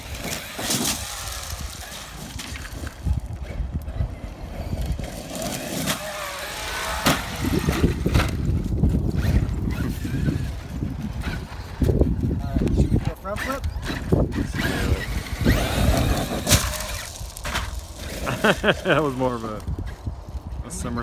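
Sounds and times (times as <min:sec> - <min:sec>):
electric motor whining: 0:00.0 - 0:19.7
tyres rumbling on loose ground: 0:00.0 - 0:20.0.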